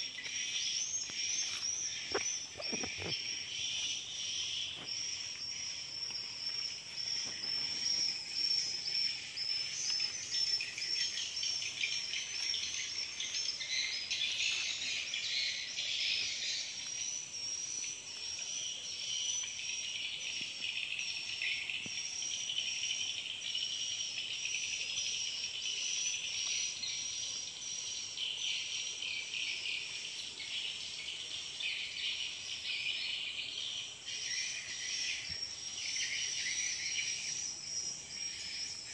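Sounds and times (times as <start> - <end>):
insects shrilling and trilling: 0.0 - 38.9.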